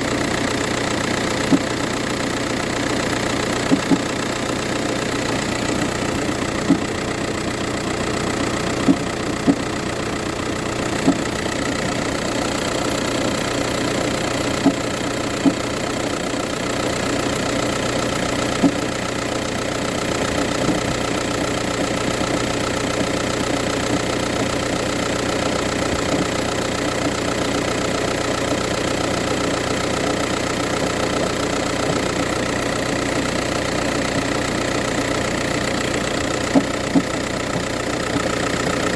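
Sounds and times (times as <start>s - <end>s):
sharp engine knocks: 0.0s - 28.6s, 29.9s - 38.9s
diesel engine idling: 0.0s - 38.9s.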